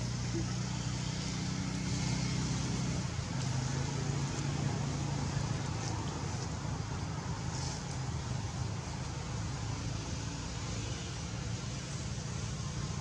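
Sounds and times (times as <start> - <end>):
constant hiss: 0.0 - 13.0
low engine hum: 0.0 - 13.0.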